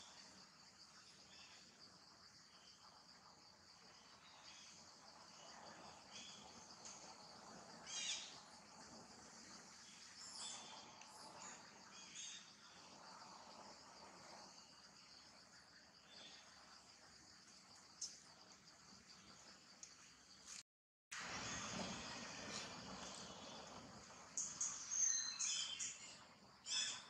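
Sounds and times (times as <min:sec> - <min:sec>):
faint drone of insects: 0:00.0 - 0:27.0.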